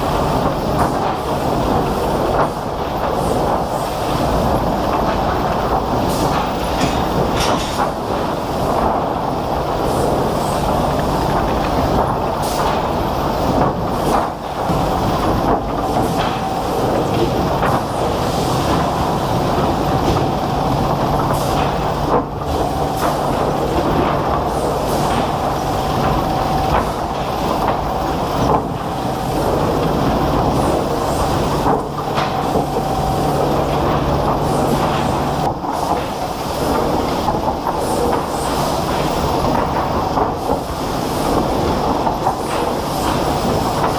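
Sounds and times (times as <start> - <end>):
wood-processing machinery running: 0.0 - 43.9.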